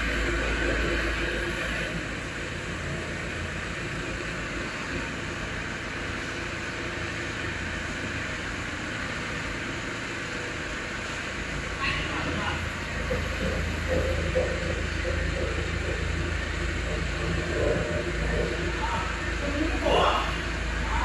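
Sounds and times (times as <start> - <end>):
cnc router machine hiss and hum: 0.0 - 21.0.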